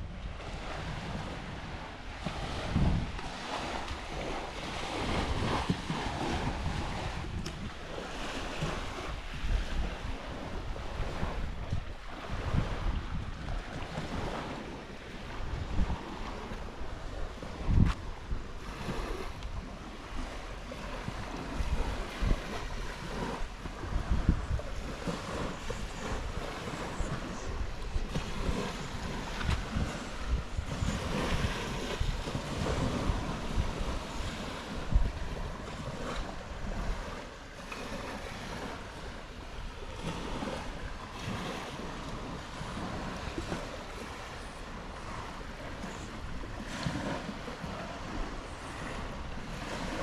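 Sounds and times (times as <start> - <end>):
waves washing on shore: 0.0 - 50.0
wind on microphone: 0.0 - 50.0.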